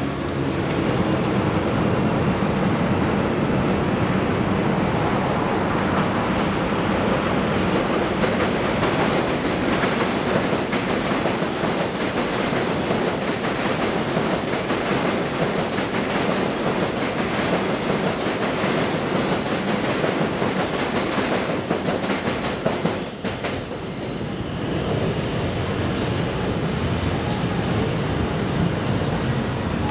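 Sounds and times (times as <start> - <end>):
train rumbling on elevated track: 0.0 - 29.9.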